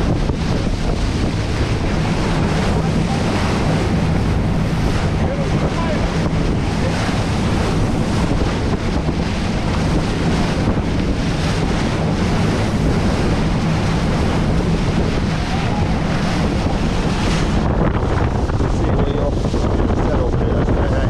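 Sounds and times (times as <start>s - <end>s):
low engine drone: 0.0s - 21.0s
water rushing past boat hull: 0.0s - 21.0s
wind buffeting microphone: 0.0s - 21.0s.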